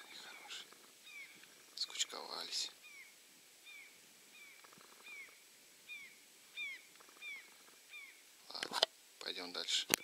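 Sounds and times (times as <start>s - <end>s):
distant geese calling: 0.0s - 8.9s.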